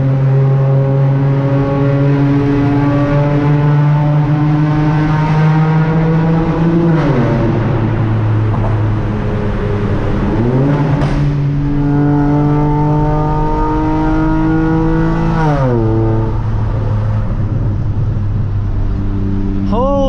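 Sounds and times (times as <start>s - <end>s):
car engine and exhaust droning: 0.0s - 20.0s.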